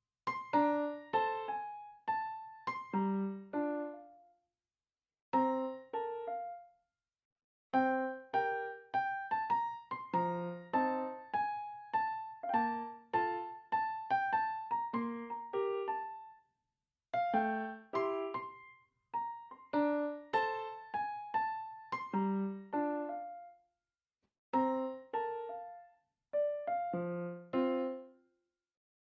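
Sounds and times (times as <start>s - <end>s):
piano-like keyboard melody: 0.3s - 4.4s, 5.4s - 6.8s, 7.8s - 16.4s, 17.1s - 23.7s, 24.6s - 28.2s.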